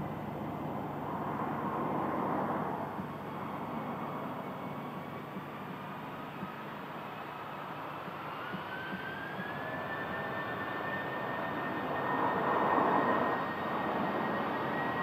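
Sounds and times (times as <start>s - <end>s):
jet engine roar: 0.0s - 15.0s
jet engine whine: 0.0s - 15.0s.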